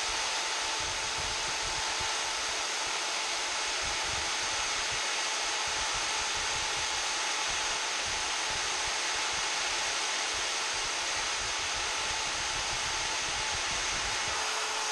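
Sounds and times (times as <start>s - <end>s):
rotary tool whining: 0.0s - 14.9s.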